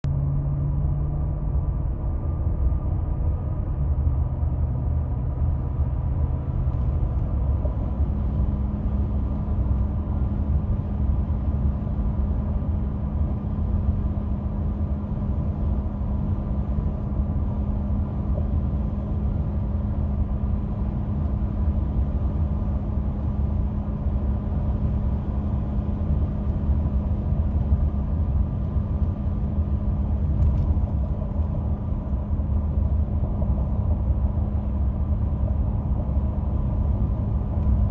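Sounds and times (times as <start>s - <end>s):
road and drivetrain rumble: 0.0s - 37.9s.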